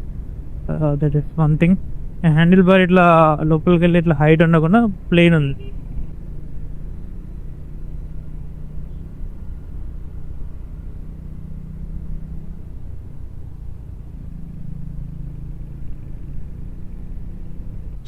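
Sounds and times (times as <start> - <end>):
motorcycle engine drone: 0.0 - 18.0
road rumble: 0.0 - 18.0.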